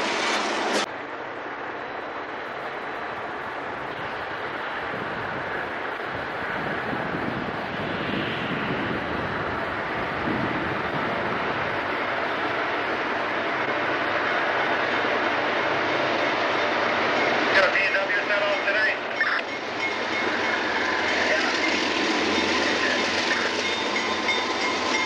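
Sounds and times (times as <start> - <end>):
diesel locomotives rumbling: 0.0 - 25.0.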